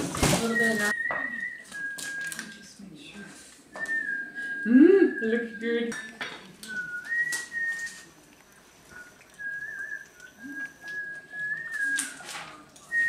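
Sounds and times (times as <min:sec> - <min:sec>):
high thin whistling: 0:00.3 - 0:02.7, 0:03.7 - 0:08.2, 0:08.9 - 0:13.0.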